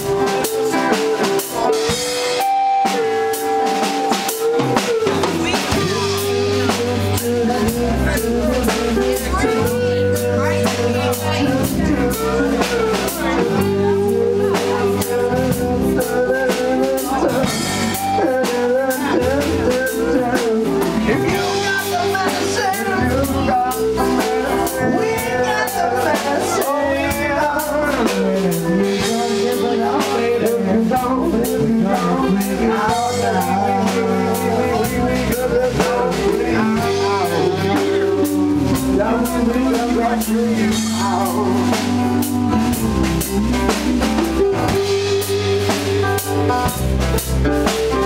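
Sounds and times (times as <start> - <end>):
rock band playing: 0.0 - 48.0
wavering melodic lead line: 0.0 - 48.0.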